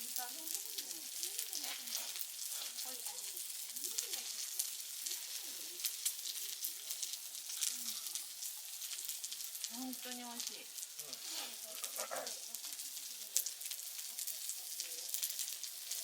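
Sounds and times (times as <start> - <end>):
food frying and sizzling: 0.0 - 16.0.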